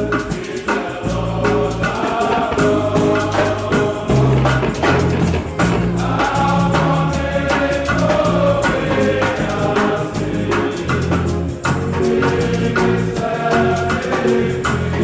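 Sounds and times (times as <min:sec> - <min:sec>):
choir singing gospel hymn: 0:00.0 - 0:15.0
steady percussion beat: 0:00.0 - 0:15.0
bass line: 0:01.0 - 0:15.0.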